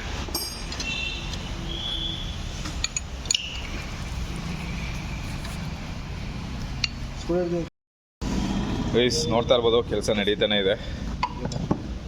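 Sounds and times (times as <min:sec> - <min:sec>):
workshop and traffic rumble: 0:00.0 - 0:12.0.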